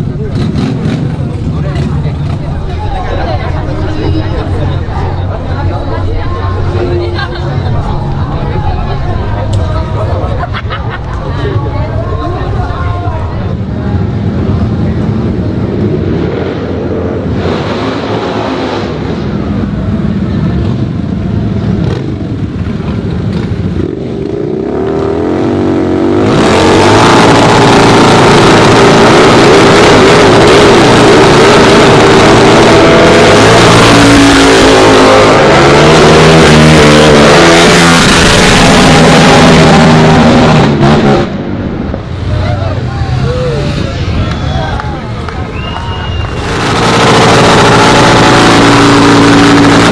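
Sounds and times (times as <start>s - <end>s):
motorcycle engine revving: 0.0s - 10.2s, 13.5s - 44.2s, 46.2s - 49.9s.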